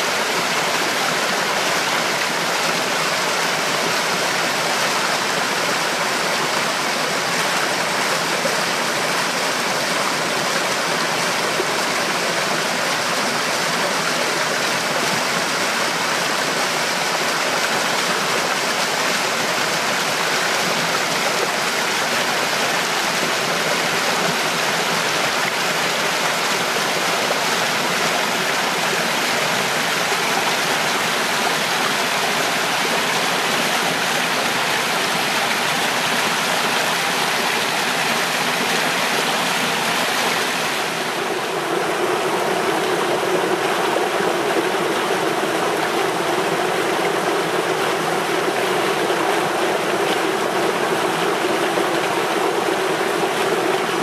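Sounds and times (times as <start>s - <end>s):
stream rushing over small waterfall: 0.0s - 54.0s.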